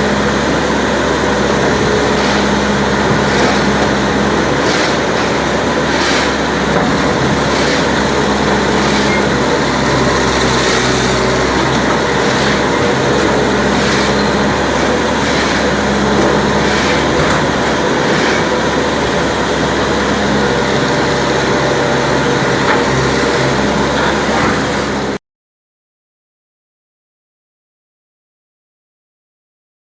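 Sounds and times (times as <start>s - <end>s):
diesel engine running: 0.0s - 25.2s.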